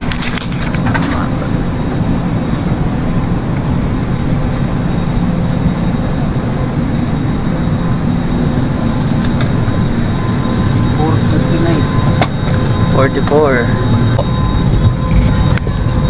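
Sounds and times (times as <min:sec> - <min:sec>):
airliner cabin ventilation rumble: 0:00.0 - 0:16.0
faint steady tones: 0:00.6 - 0:16.0.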